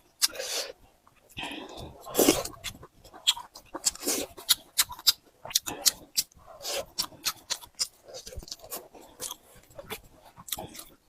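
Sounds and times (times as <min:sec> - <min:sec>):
wet chewing clicks: 0:01.0 - 0:11.0.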